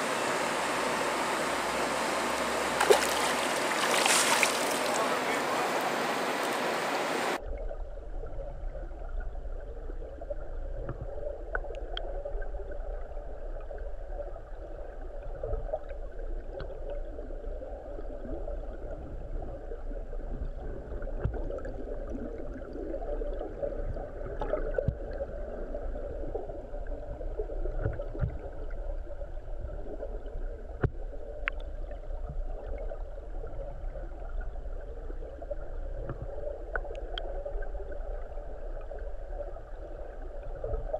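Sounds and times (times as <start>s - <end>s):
muffled underwater river current: 0.0s - 40.9s.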